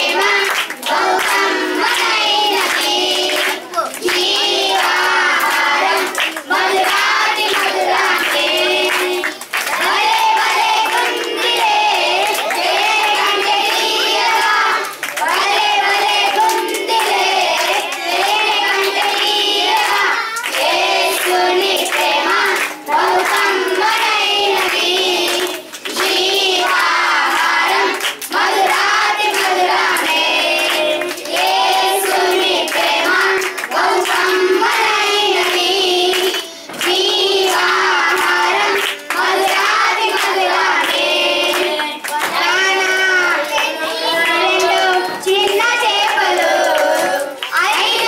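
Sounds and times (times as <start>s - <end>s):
boys singing in unison: 0.0s - 48.0s
hands clapping: 0.0s - 48.0s.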